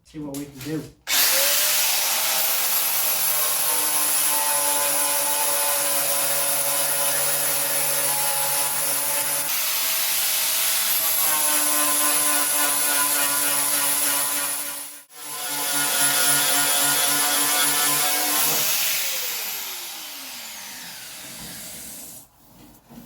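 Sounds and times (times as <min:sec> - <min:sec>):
angle grinder grinding metal: 0:01.1 - 0:22.2.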